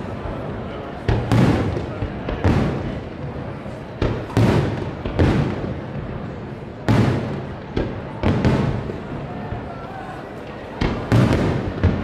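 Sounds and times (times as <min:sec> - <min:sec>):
firework bangs with rolling echo: 0:00.0 - 0:12.0.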